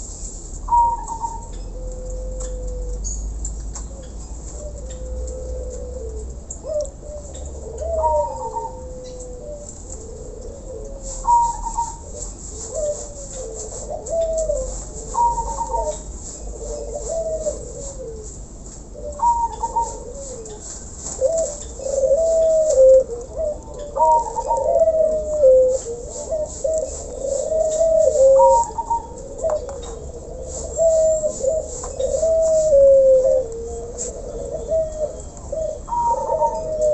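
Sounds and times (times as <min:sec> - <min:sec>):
doves cooing: 0:00.6 - 0:36.9.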